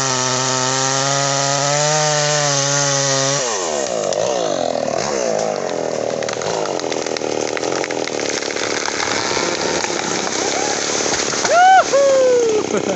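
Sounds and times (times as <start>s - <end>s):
chainsaw cutting into tree trunk: 0.0s - 12.9s.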